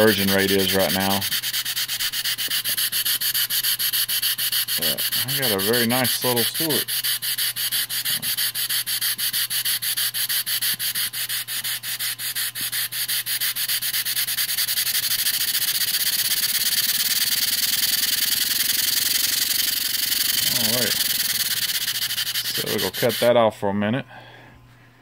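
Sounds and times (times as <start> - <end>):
model steam engine exhaust puffing: 0.0 - 23.4.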